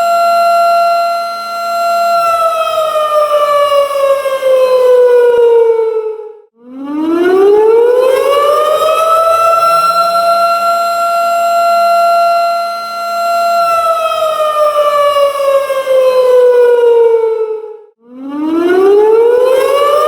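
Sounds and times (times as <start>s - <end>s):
warning siren wailing: 0.0s - 20.0s.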